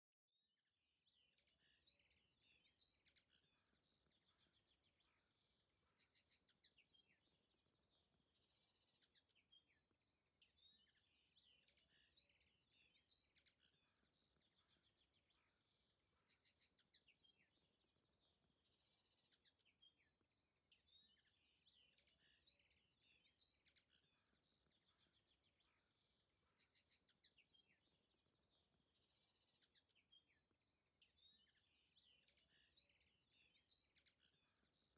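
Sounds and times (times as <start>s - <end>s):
songbird chirping and trilling: 0.0s - 34.9s.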